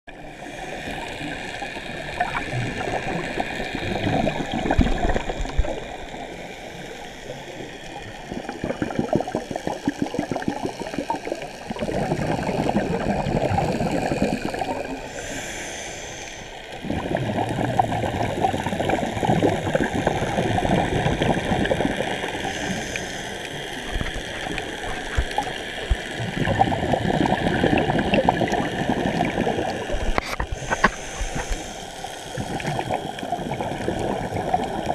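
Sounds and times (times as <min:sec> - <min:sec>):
underwater exhaled bubbles: 0:00.1 - 0:34.9.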